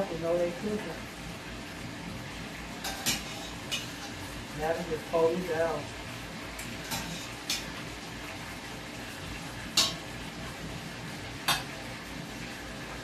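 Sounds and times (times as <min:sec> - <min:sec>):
onions sizzling in a pan: 0:00.0 - 0:13.0.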